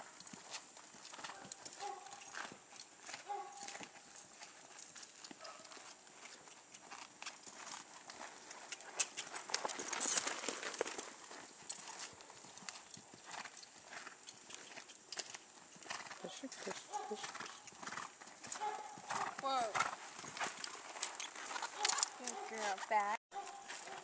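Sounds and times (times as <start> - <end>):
horse hoofbeats on sand: 0.0 - 24.0.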